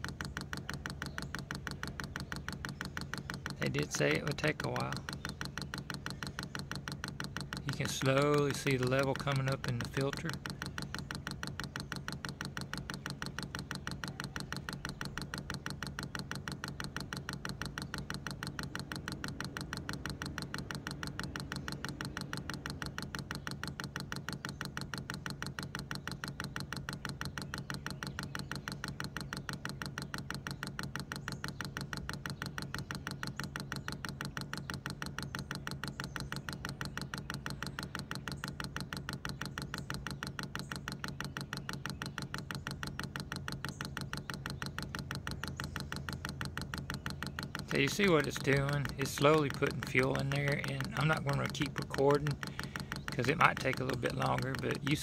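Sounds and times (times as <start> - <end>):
fuel pump ticking: 0.0 - 55.0
steady low hum: 0.0 - 55.0.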